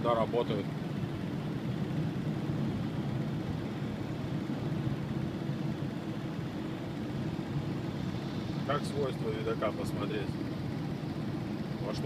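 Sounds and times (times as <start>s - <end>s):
vehicle engine and tyres rumble: 0.0s - 12.0s.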